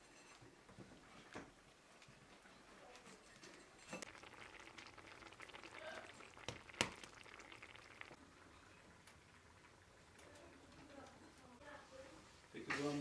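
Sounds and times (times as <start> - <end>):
faint crackling: 2.0 - 13.0.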